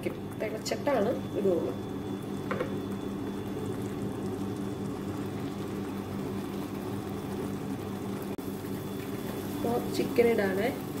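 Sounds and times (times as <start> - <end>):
low mechanical motor hum: 0.0 - 11.0.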